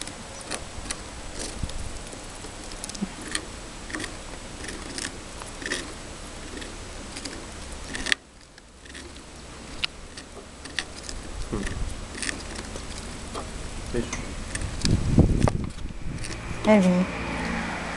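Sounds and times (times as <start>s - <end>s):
steady background hiss: 0.0s - 16.6s.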